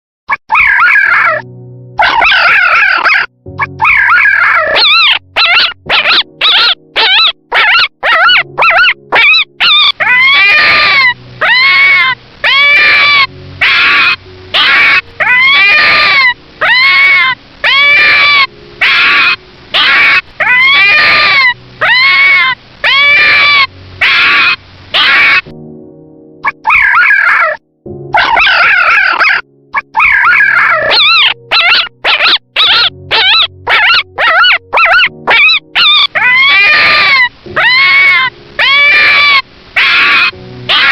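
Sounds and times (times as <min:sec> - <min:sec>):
puppy yelping and whimpering: 0:00.4 - 0:01.4, 0:02.0 - 0:25.4, 0:26.4 - 0:40.9.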